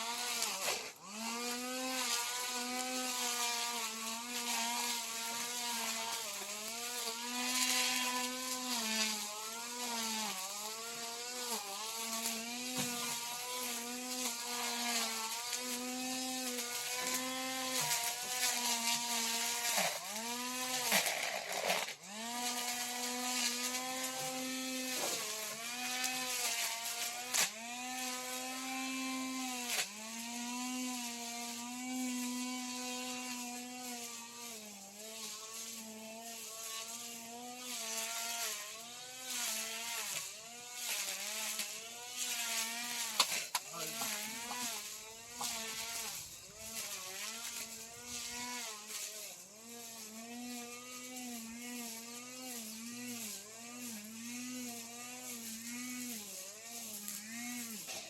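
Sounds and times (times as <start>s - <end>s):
grass trimmer motor whine: 0.0s - 58.0s.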